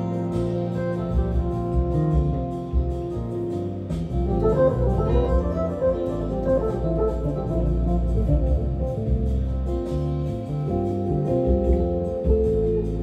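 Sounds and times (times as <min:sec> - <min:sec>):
deep low bass: 0:00.0 - 0:13.0.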